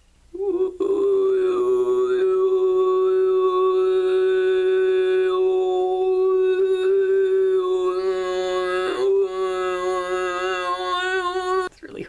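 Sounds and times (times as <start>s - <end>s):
man throat singing: 0.3s - 11.7s.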